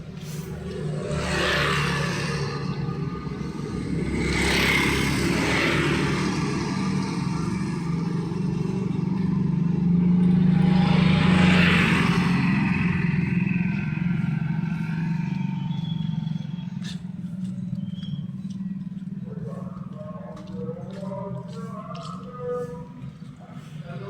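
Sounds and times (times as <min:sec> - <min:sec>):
street traffic engines: 0:00.0 - 0:24.0
vehicle passing close: 0:00.0 - 0:24.0.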